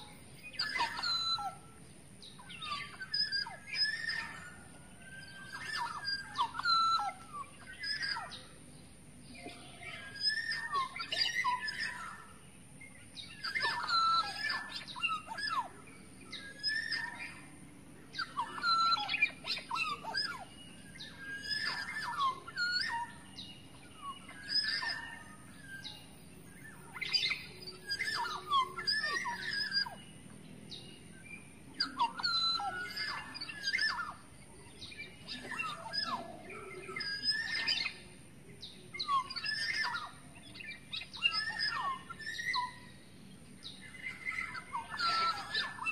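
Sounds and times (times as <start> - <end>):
bird singing whistled notes: 0.0 - 45.9.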